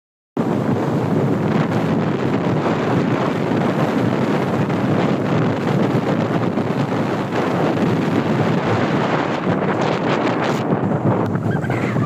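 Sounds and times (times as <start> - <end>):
wind buffeting microphone: 0.4 - 12.0.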